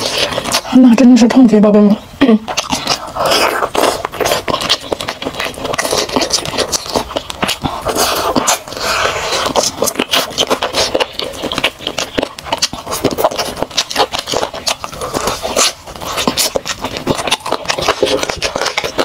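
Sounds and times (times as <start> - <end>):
wet crunching chewing: 0.0 - 19.0.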